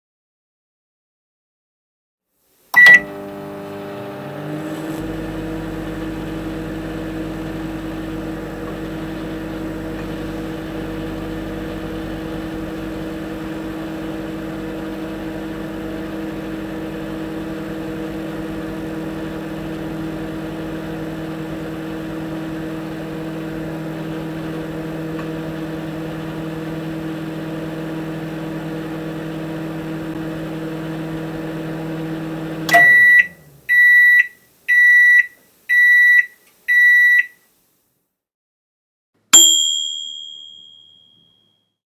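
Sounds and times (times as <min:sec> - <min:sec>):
microwave oven humming: 0:02.8 - 0:37.3.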